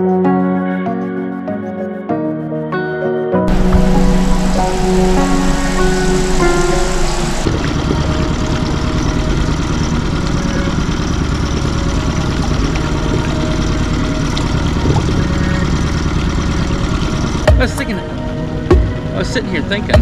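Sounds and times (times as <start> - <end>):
music: 0.0 - 20.0
outboard motor running: 3.5 - 20.0.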